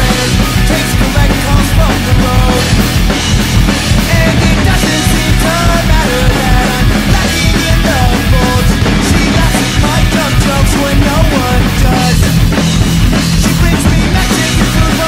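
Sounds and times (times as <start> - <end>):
acoustic drum kit playing: 0.0 - 15.0
pop-punk band recording: 0.0 - 15.0.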